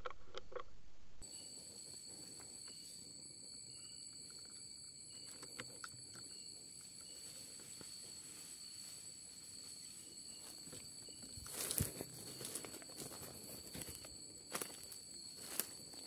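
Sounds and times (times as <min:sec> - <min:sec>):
crickets chirping chorus: 0:01.2 - 0:16.0.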